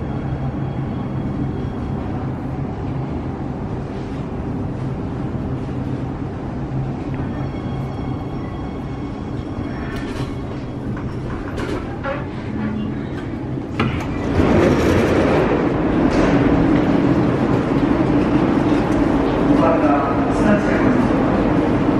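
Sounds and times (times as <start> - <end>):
metro train low hum: 0.0 - 21.9.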